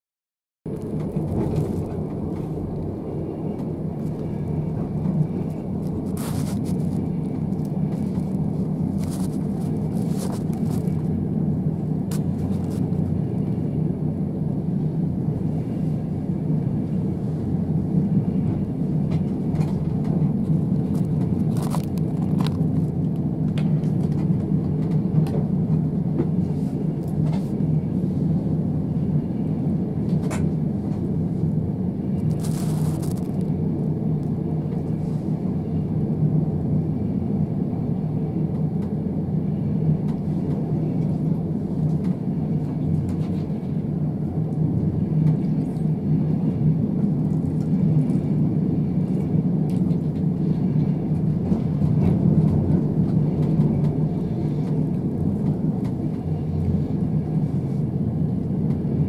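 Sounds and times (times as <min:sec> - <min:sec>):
train rumbling inside carriage: 0:00.7 - 0:59.0.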